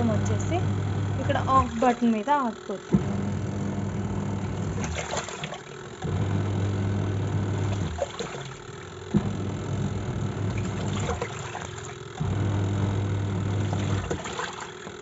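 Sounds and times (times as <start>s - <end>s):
clothes churning in water: 0.0s - 15.0s
washing machine motor humming: 0.0s - 15.0s.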